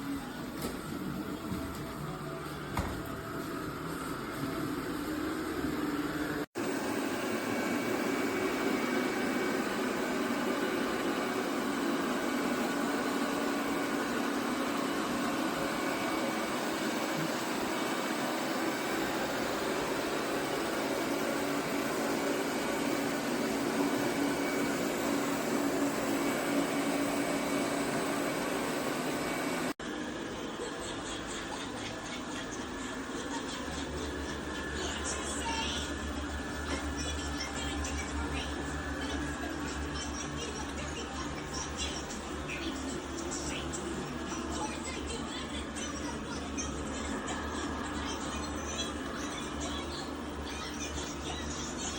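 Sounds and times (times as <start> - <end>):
robot vacuum fan whirring: 0.0 - 51.9.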